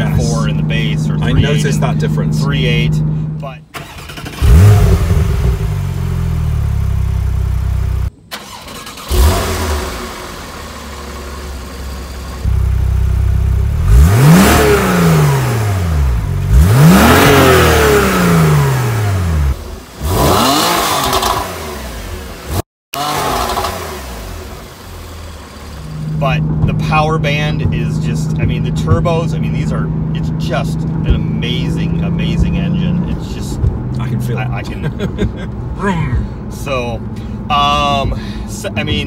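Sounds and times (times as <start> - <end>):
another car engine running: 0.0 - 39.0
car engine starting and revving: 0.0 - 39.0.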